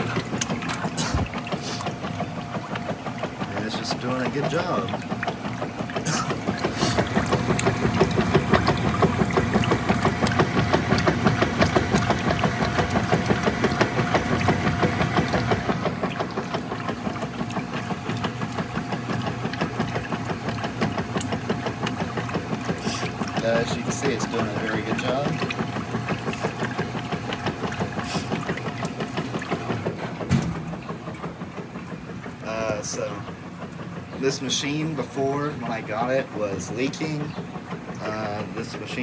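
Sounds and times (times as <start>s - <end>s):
washing machine agitating: 0.0s - 39.0s.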